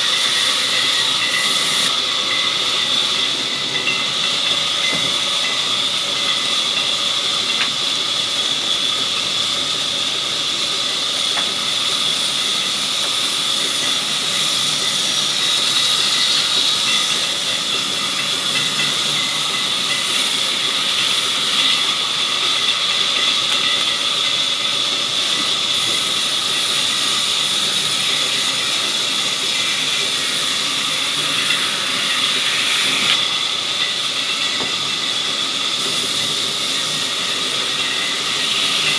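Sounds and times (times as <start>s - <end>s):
saw cutting through log: 0.0s - 38.9s.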